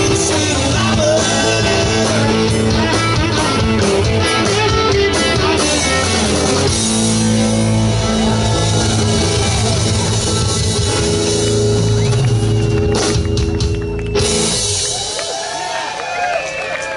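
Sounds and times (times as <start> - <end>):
blues-rock band playing: 0.0 - 15.6.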